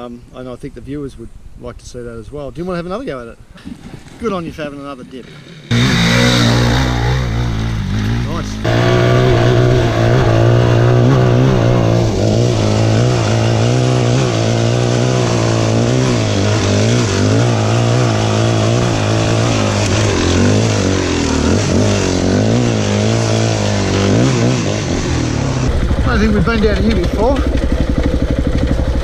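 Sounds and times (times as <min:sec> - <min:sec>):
dirt bike engine revving: 0:05.2 - 0:29.0.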